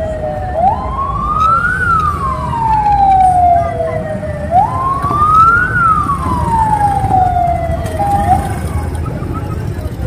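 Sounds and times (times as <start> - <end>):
electronic siren wailing: 0.2 - 9.2.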